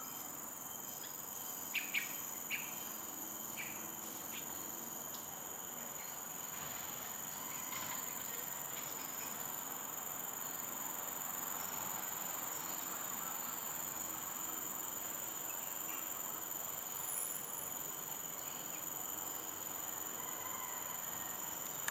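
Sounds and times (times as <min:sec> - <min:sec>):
high-pitched insect drone: 0:00.0 - 0:21.9.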